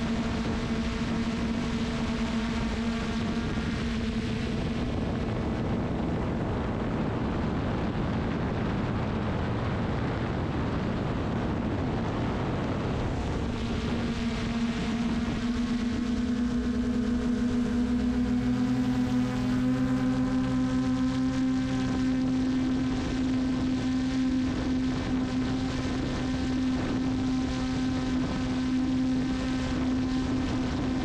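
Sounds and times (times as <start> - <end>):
drone propellers whining: 0.0 - 9.0, 11.3 - 31.0.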